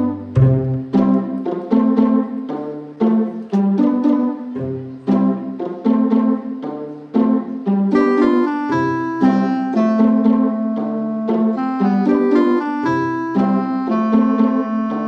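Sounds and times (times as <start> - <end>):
bouncy background music: 0.0 - 15.0.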